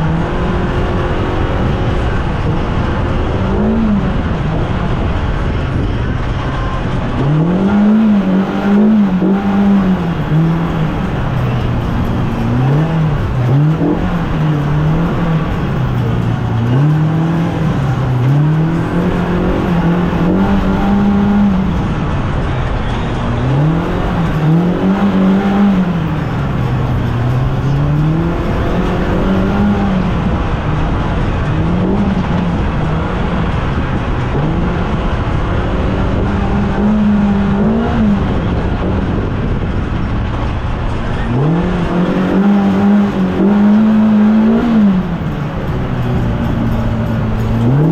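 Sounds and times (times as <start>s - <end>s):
engine revving: 0.0s - 47.9s.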